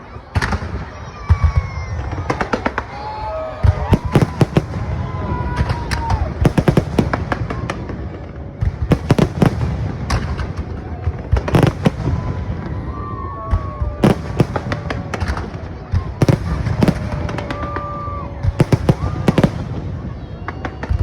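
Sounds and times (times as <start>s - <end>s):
fireworks bangs and cracks: 0.0s - 21.0s
people's voices: 0.0s - 21.0s.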